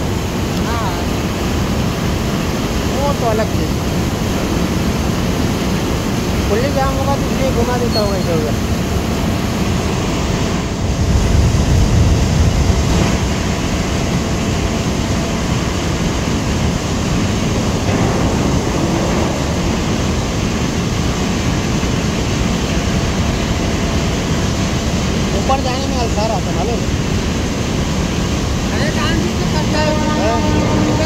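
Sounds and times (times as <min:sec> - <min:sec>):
low machinery rumble: 0:00.0 - 0:31.0
turbulent water churning: 0:00.0 - 0:31.0.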